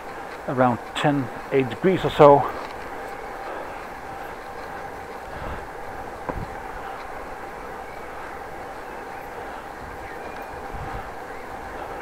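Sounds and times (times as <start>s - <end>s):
bicycle rolling noise: 0.0s - 12.0s.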